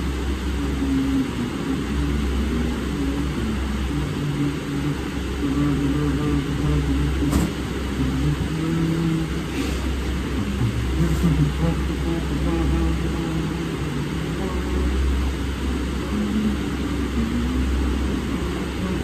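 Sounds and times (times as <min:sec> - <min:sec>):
low rumble with wavering hum: 0:00.0 - 0:19.0.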